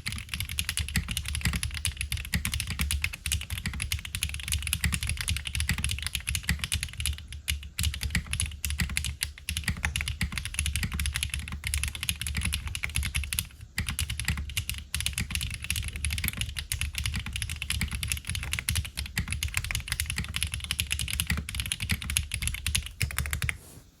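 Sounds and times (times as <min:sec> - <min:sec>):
fast typing on mechanical keyboard: 0:00.0 - 0:23.6.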